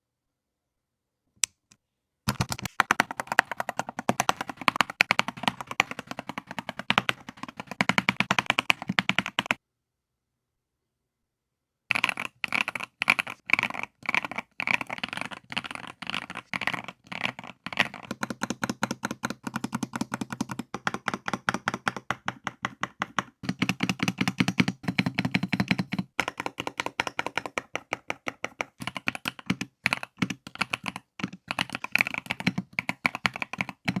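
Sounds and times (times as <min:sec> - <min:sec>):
mechanical keyboard typing: 0:02.3 - 0:09.6, 0:11.9 - 0:34.0.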